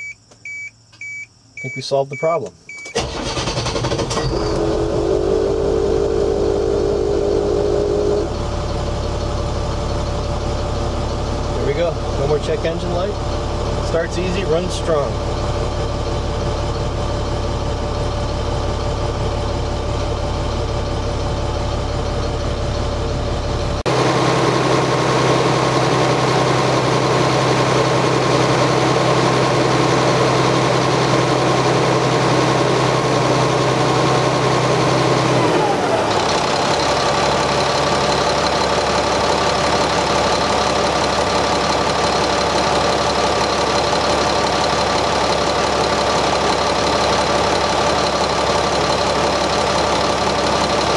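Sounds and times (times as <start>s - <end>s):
diesel engine idling: 2.9s - 50.9s.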